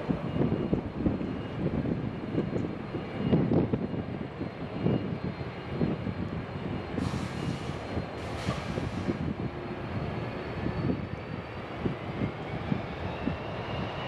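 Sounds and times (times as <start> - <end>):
jet engine high whine: 0.0 - 14.0
jet engines rumbling: 0.0 - 14.0.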